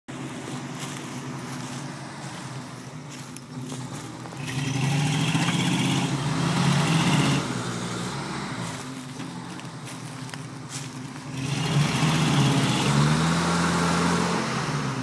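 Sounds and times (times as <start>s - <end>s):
engines revving under load: 0.1s - 15.0s.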